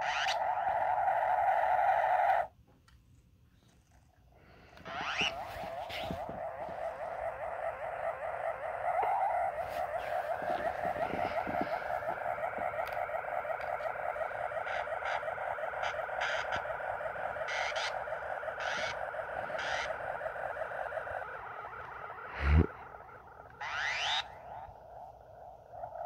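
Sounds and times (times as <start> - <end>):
wobbling synthesizer tone: 0.0 - 2.5, 4.8 - 26.0.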